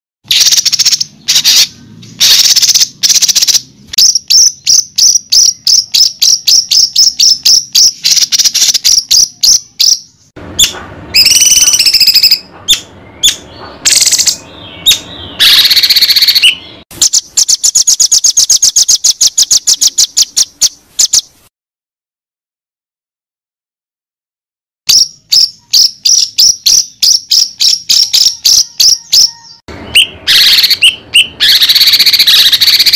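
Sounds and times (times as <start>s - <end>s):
bird chirping: 0.2s - 21.5s, 24.9s - 32.9s
bird whistled phrases: 0.3s - 21.3s, 24.9s - 32.9s.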